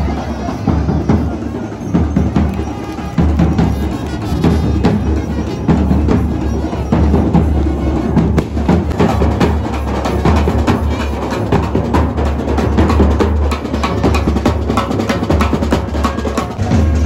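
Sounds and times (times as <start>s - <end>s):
rapid dense drumming: 0.6s - 17.0s.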